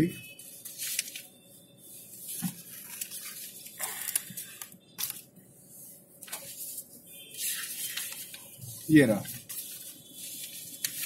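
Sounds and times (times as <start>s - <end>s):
papers rustling and crinkling: 0.4s - 1.3s, 2.1s - 5.3s, 6.2s - 11.0s.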